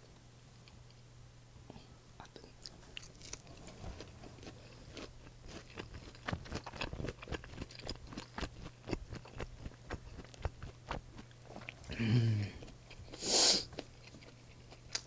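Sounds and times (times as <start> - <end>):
chewing food: 2.2 - 15.0.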